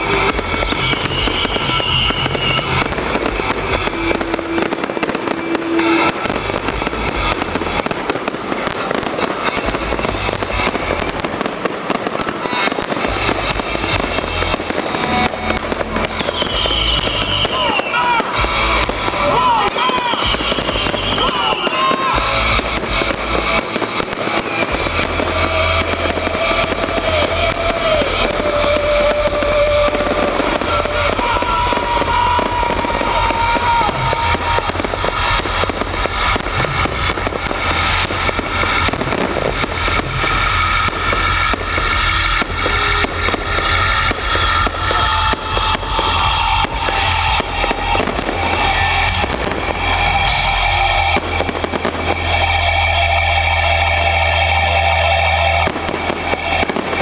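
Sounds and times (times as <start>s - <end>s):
fireworks bursting and crackling: 0.0s - 57.0s
music playing: 0.0s - 57.0s.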